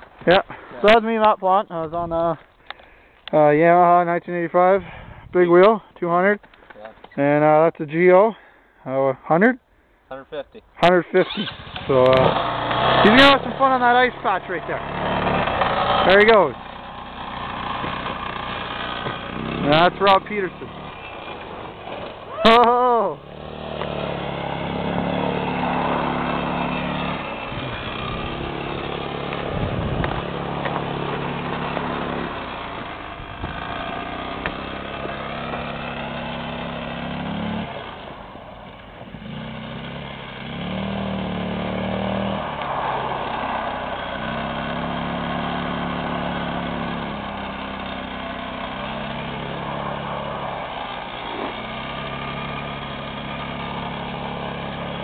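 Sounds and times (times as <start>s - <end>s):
small atv engine revving: 10.8s - 55.0s.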